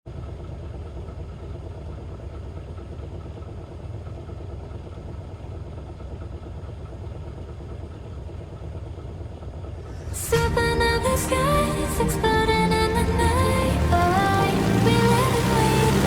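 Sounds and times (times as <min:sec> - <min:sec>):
light aircraft engine drone: 0:00.1 - 0:16.0.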